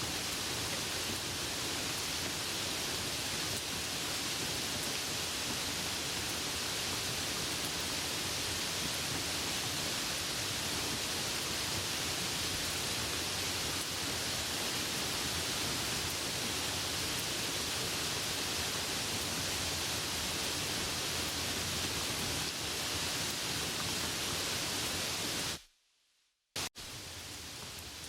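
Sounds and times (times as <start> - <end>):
soft rain hiss: 0.0 - 25.7, 26.6 - 28.0.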